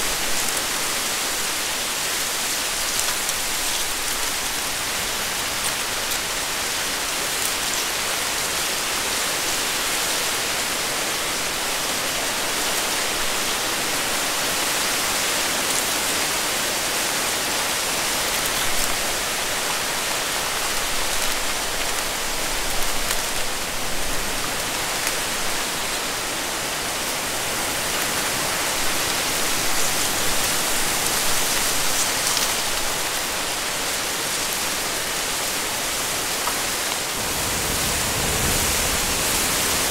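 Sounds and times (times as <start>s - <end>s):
reeds rustling in wind: 0.0s - 39.9s.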